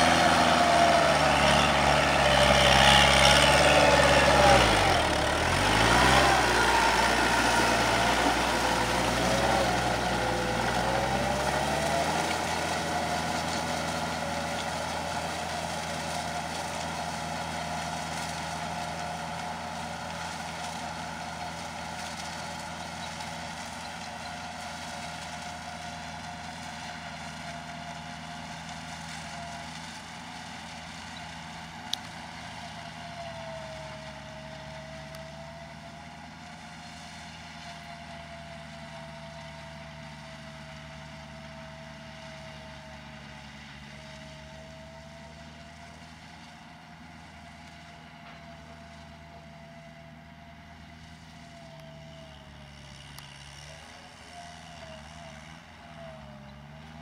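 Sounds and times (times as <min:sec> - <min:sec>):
rotary tiller whine: 0:00.0 - 0:47.1
tractor diesel engine under load: 0:00.0 - 0:57.0.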